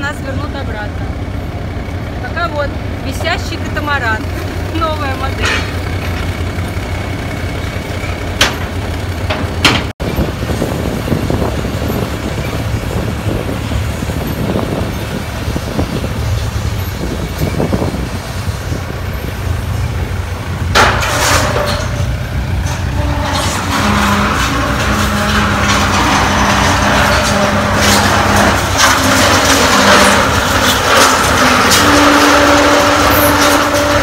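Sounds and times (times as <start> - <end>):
crane diesel engine running: 0.0 - 34.0.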